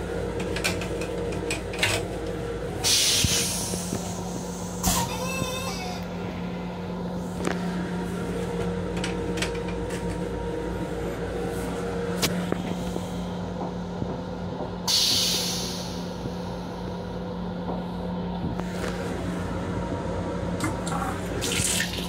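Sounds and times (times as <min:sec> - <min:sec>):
steady train hum: 0:00.0 - 0:22.0.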